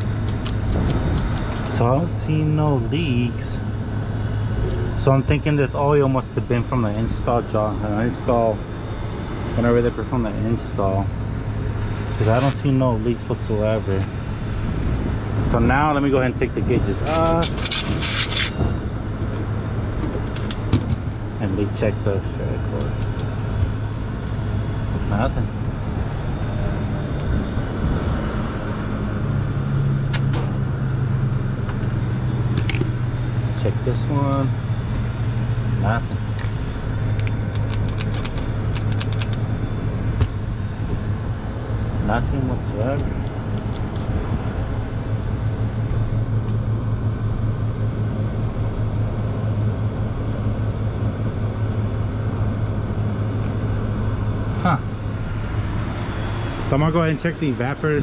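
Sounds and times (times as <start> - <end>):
low motor hum: 0.0 - 58.0.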